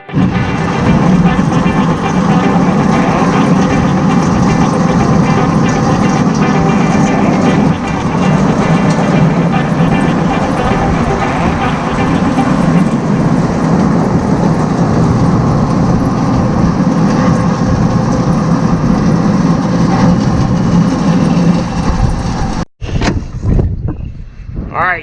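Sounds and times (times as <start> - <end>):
machinery rumble: 0.0 - 22.7
wind on microphone: 0.1 - 25.0.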